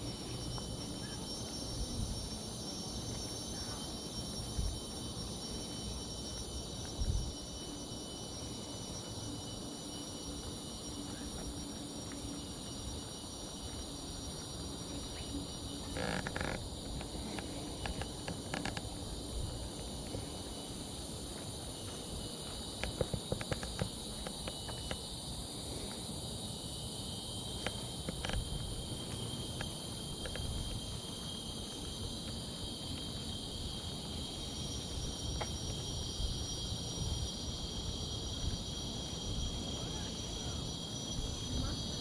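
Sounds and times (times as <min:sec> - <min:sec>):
insects chirping shrilly: 0:00.0 - 0:42.0.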